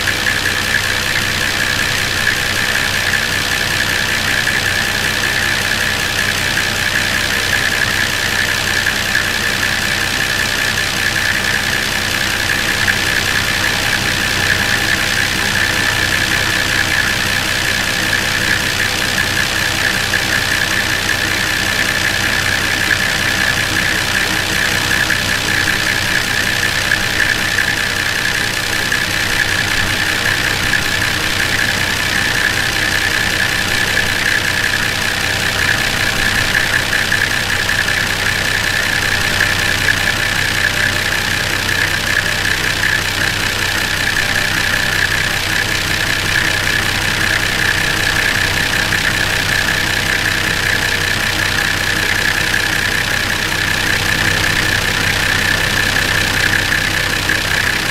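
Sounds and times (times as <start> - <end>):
diesel engine idling: 0.0 - 57.9
steady high-pitched whine: 0.0 - 57.9.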